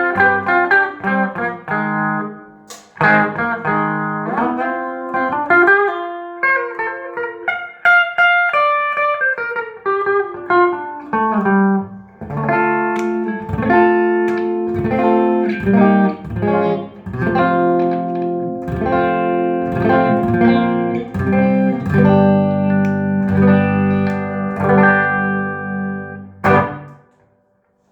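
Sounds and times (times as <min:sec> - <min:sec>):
electric guitar notes and chords: 0:00.0 - 0:27.4.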